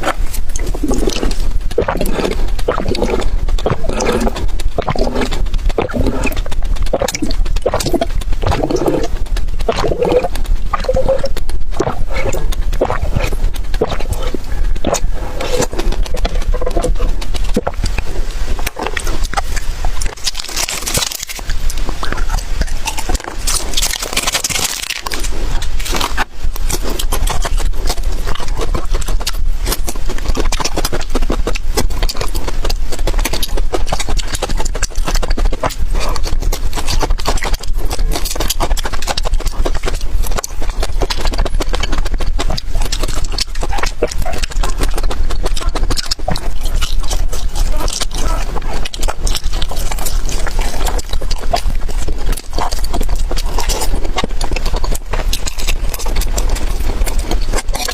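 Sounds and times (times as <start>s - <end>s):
person chewing and smacking food: 0.0s - 57.9s
steady low hum: 0.0s - 57.9s.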